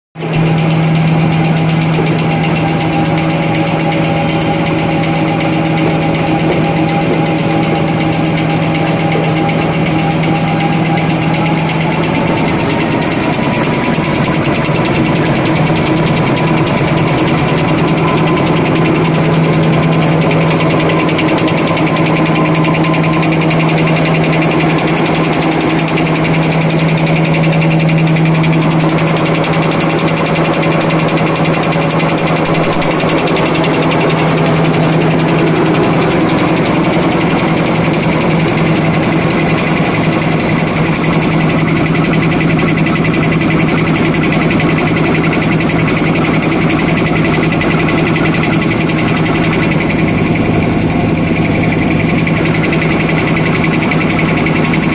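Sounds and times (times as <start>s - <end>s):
folding machine running: 0.2s - 54.9s.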